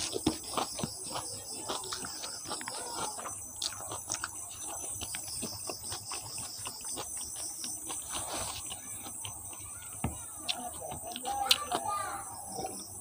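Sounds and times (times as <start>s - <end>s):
wet mouth chewing: 0.0s - 11.9s.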